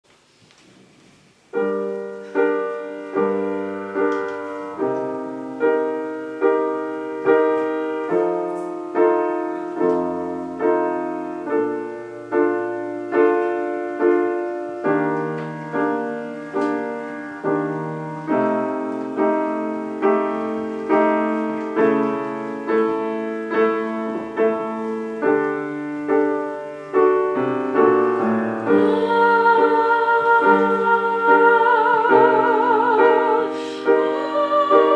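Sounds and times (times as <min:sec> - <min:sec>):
piano playing slow chords: 0:01.5 - 0:34.9.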